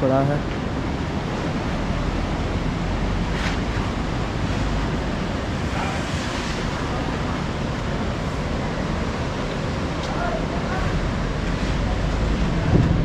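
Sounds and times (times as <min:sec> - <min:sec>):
river rushing roar: 0:00.0 - 0:13.0
wind buffeting microphone: 0:00.6 - 0:13.0.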